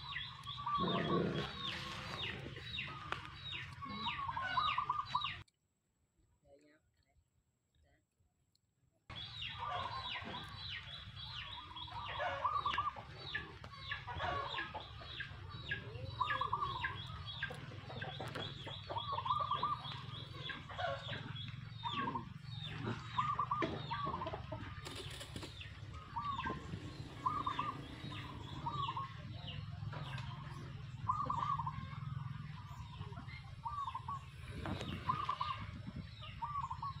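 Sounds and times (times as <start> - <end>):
birds chirping: 0.0 - 5.5, 9.1 - 37.0
lower bird calls: 0.0 - 5.5, 9.1 - 37.0.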